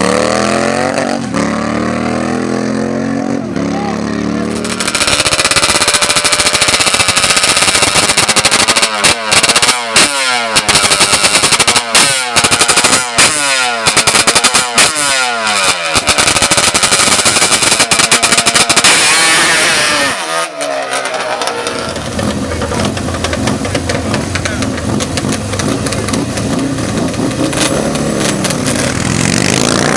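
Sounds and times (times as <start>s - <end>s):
atv engine at full throttle: 0.0s - 29.9s.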